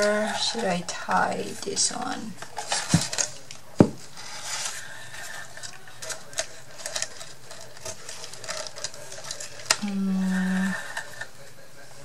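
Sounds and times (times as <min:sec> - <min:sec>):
faint rustling of craft materials: 0:00.0 - 0:12.0.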